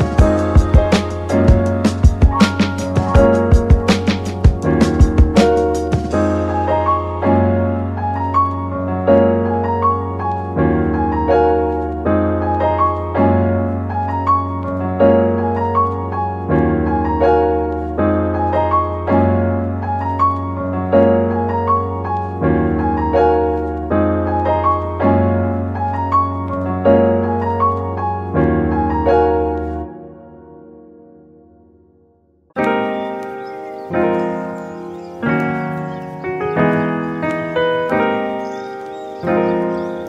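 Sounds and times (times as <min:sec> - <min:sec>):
gentle piano music: 0:00.0 - 0:40.0.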